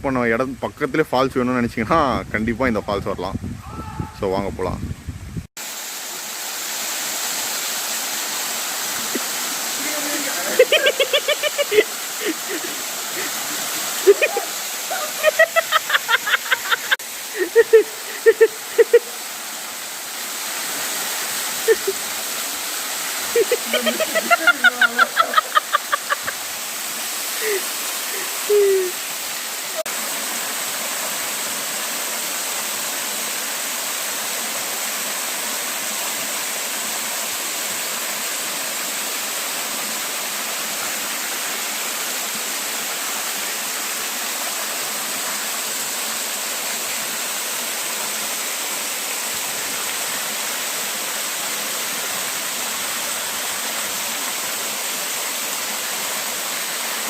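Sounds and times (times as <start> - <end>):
waterfall rushing: 5.6 - 57.0.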